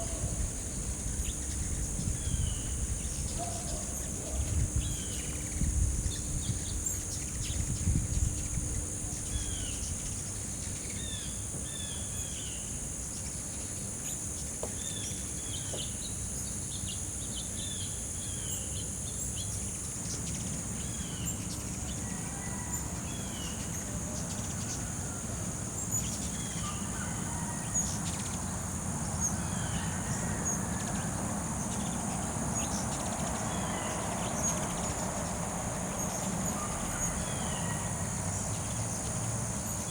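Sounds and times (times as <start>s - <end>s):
high-pitched insect drone: 0.1s - 39.9s.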